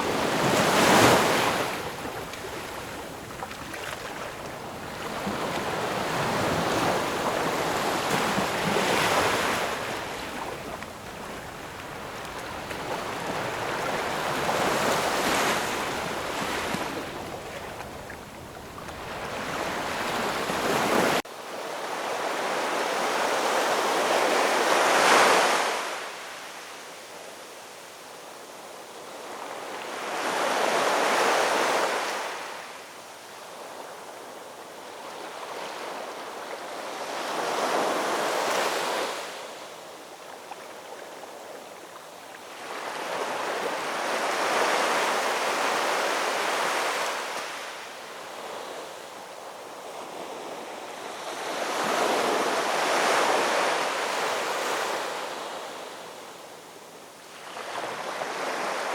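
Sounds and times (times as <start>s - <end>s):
ocean waves washing on shore: 0.0s - 26.8s, 29.1s - 58.9s.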